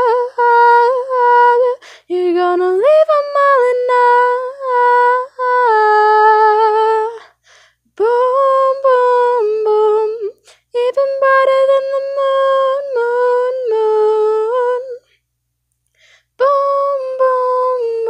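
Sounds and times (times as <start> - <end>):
woman singing unaccompanied: 0.0 - 15.1, 16.4 - 18.0.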